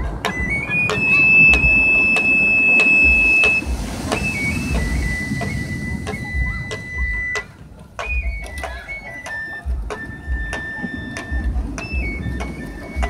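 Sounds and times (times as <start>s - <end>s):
flute playing long high notes: 0.0s - 13.0s.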